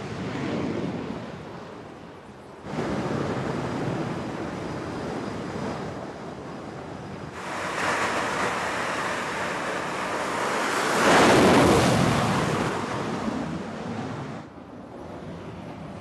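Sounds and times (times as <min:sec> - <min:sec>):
wind noise on microphone: 0:00.0 - 0:16.0
jet engines rushing: 0:02.6 - 0:16.0.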